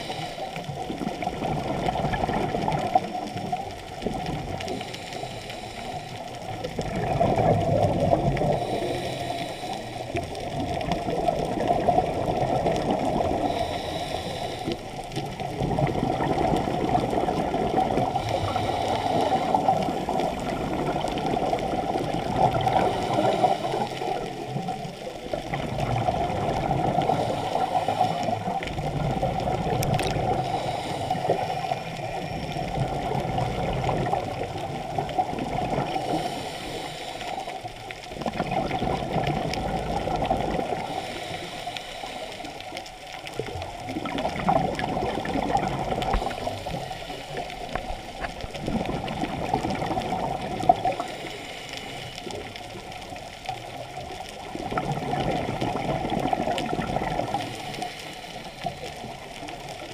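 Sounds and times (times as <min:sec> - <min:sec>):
underwater bubbles gurgling: 0:00.0 - 0:59.9.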